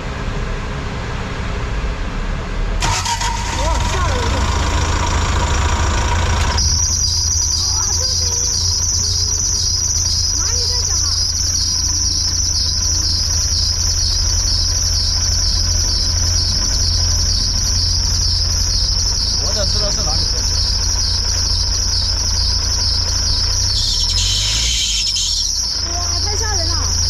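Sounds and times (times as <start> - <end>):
truck engine idling: 0.0 - 27.0
pulsing chirping squeal: 5.1 - 27.0.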